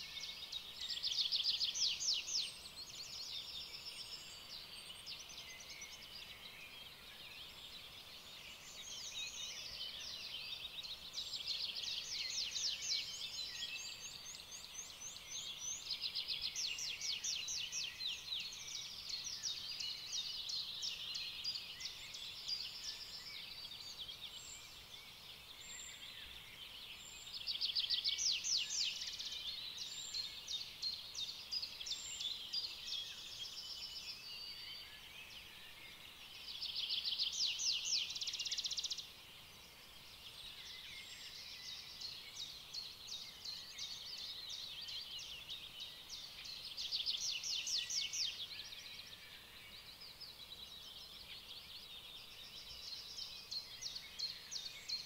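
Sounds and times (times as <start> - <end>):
songbirds trilling and twittering: 0.0 - 55.0.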